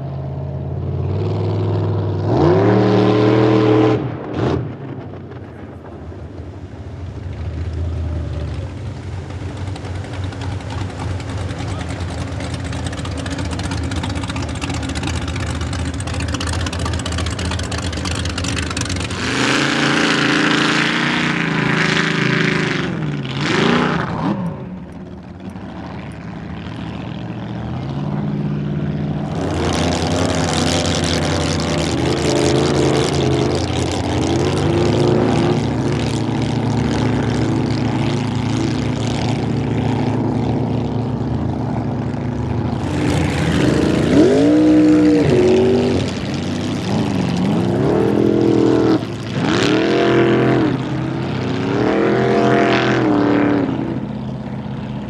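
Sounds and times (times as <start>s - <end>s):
boat engines revving: 0.0s - 55.0s.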